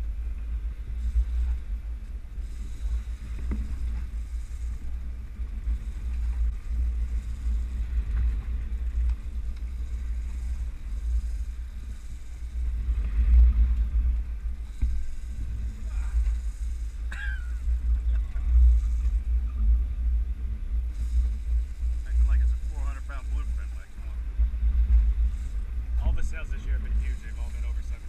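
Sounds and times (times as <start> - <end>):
rough sea: 0.0 - 28.0
wind rumble: 0.0 - 28.0.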